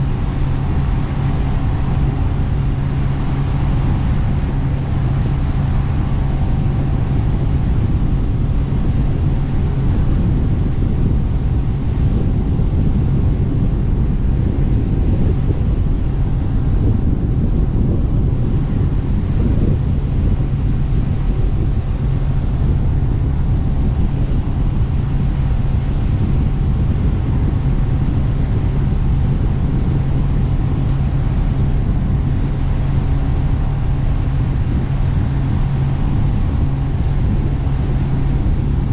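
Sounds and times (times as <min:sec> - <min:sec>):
boat engine running: 0:00.0 - 0:38.9
wind buffeting microphone: 0:00.0 - 0:38.9.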